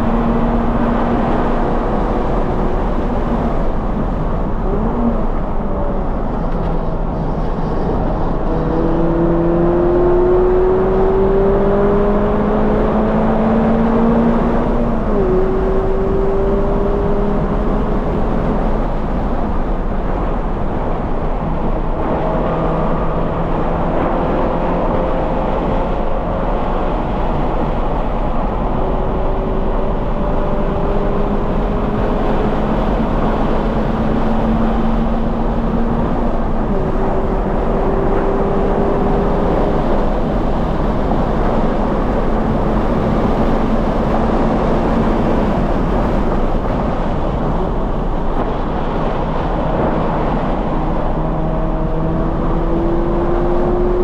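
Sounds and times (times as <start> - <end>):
car engine revving hard: 7.9 - 20.2, 21.1 - 54.0.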